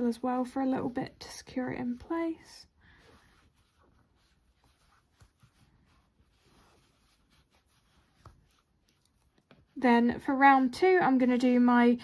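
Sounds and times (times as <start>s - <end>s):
yarn rustling: 0.0s - 10.0s.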